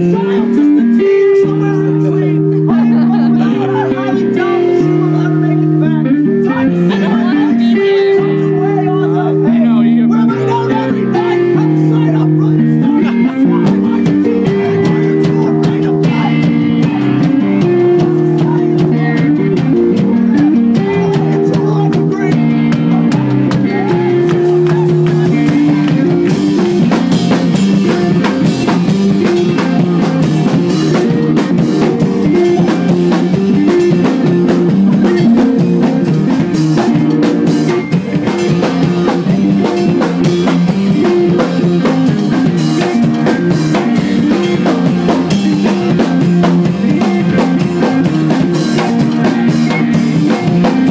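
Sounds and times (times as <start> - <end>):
drums: 0.0 - 50.9
picked electric guitar: 0.0 - 50.9
rock band playing: 0.0 - 50.9.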